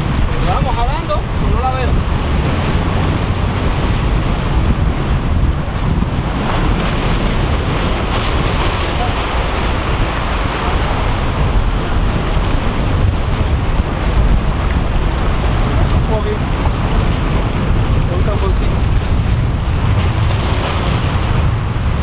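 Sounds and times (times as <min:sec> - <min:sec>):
surf breaking over rocks: 0:00.0 - 0:22.0
wind buffeting microphone: 0:00.0 - 0:22.0.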